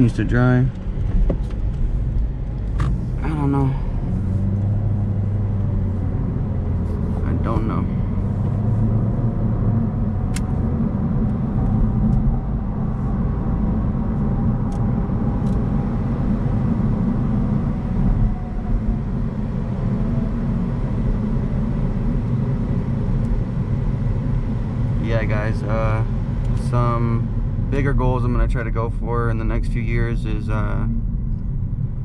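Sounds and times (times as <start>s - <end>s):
car driving road and engine rumble: 0.0s - 32.0s.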